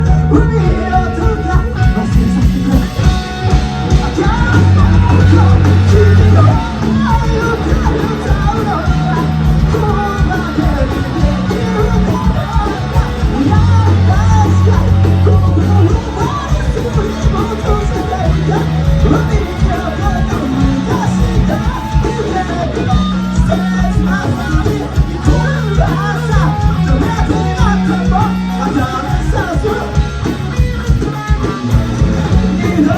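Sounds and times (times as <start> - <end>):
bass guitar: 0.0 - 32.9
drums: 0.0 - 32.9
electric guitars: 0.0 - 32.9
person singing: 0.0 - 32.9.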